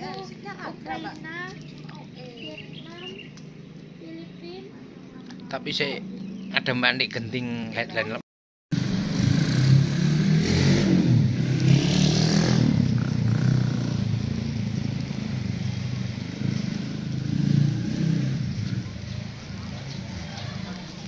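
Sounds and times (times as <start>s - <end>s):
vehicle engine running: 0.0s - 8.0s, 8.7s - 21.0s.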